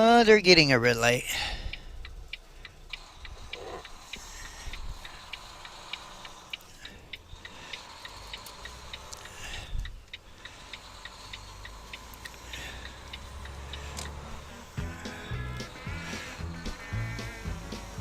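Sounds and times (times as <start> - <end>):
truck engine idling: 0.0 - 18.0
turn signal ticking: 0.0 - 18.0.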